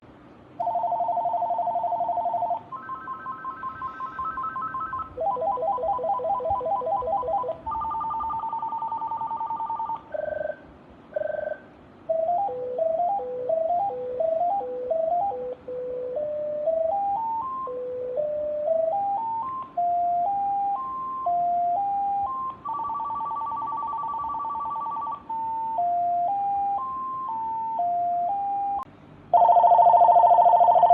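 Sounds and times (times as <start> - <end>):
cordless phone electronic ringtones: 0.6 - 30.9.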